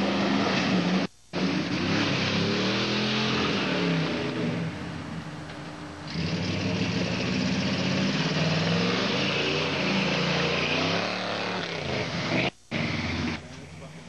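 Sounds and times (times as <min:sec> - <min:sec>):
truck engine revving hard: 0:00.0 - 0:04.8, 0:06.1 - 0:13.4.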